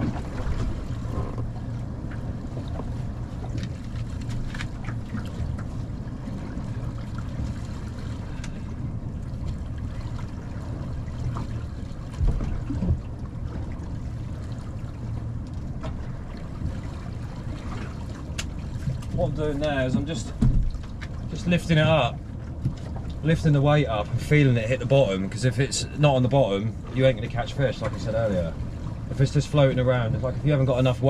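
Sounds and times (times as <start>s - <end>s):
wind rumble on microphone: 0.0s - 25.4s
faint water sounds: 0.0s - 31.0s.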